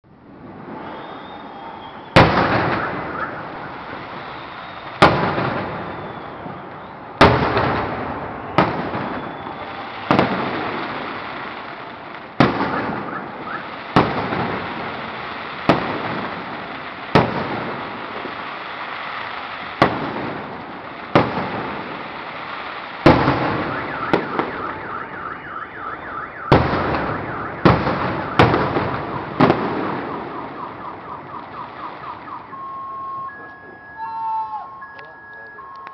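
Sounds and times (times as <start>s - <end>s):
fireworks crackle: 0.3s - 35.9s
fireworks booms with echoing rumble: 0.4s - 33.8s.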